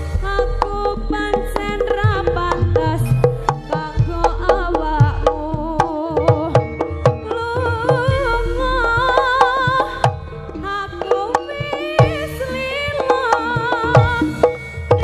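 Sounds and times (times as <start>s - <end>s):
hand drum strokes: 0.0s - 15.0s
wavering melody with vibrato: 0.0s - 15.0s.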